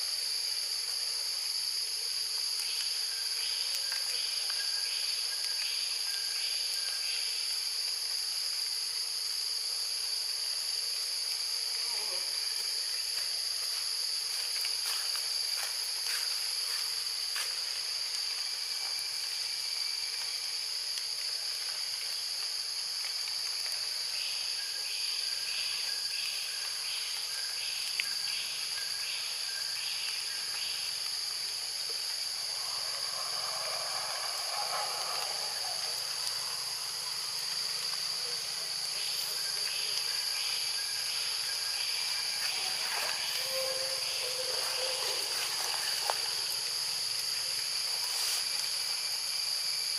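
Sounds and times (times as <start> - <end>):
high-pitched insect chorus: 0.0 - 49.9
lower pulsing insect call: 0.0 - 49.9.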